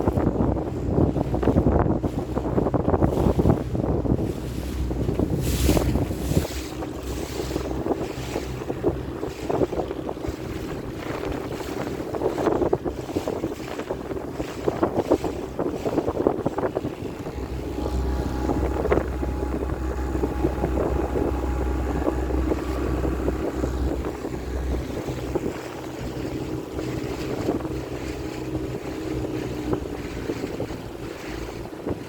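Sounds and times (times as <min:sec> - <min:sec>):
motorboat engine humming: 0:00.0 - 0:32.0
wind buffeting microphone: 0:00.0 - 0:32.0.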